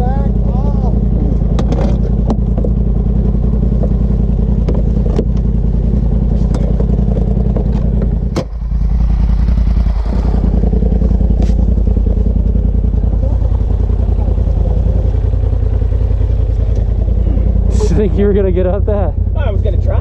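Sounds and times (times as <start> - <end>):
utility vehicle engine idling: 0.0 - 20.0.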